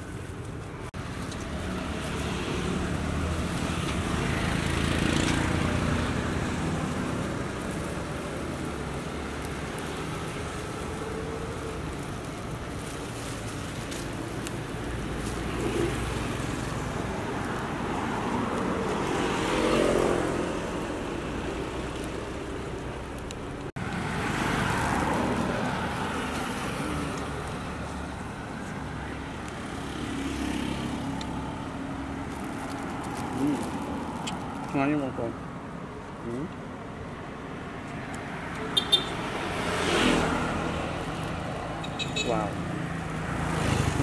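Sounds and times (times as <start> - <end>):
street traffic passing: 0.0 - 44.0.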